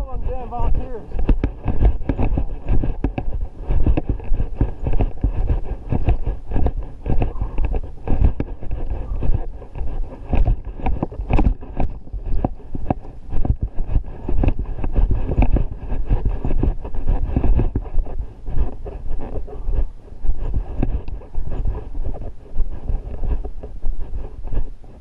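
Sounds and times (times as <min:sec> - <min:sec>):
footsteps on dry grass: 0:00.0 - 0:24.8
camera knocking and rubbing: 0:00.0 - 0:25.0
wind rumble on microphone: 0:00.0 - 0:25.0.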